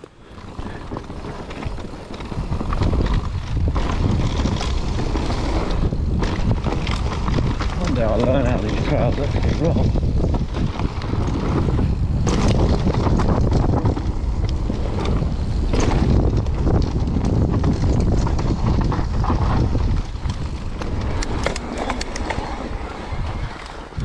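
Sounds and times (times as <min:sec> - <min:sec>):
bike rattling and clicking: 0:00.0 - 0:24.0
wind buffeting microphone: 0:00.0 - 0:24.0
tyre rumble on dirt: 0:00.2 - 0:24.0.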